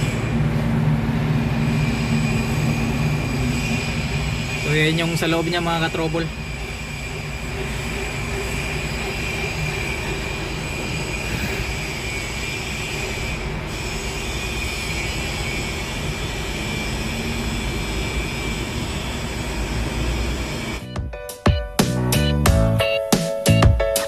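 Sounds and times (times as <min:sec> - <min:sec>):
machine noise with high whine: 0:00.0 - 0:20.9.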